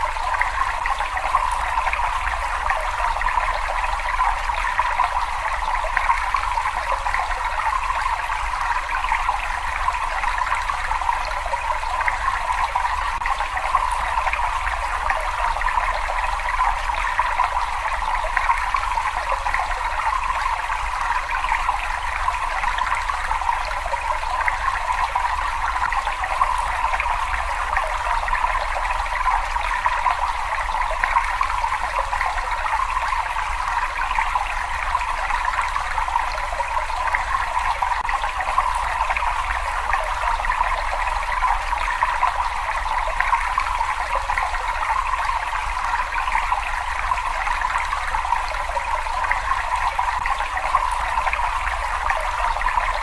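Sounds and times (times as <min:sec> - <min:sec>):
water trickling in a cave: 0:00.0 - 0:53.0.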